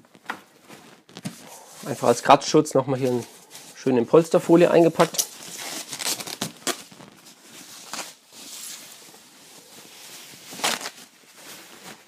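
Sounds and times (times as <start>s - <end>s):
plastic wrap and fabric rustling: 0.0s - 12.0s.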